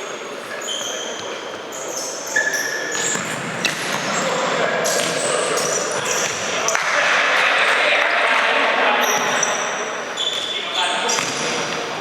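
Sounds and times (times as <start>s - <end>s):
sneakers squeaking on hall floor: 0.0s - 12.0s.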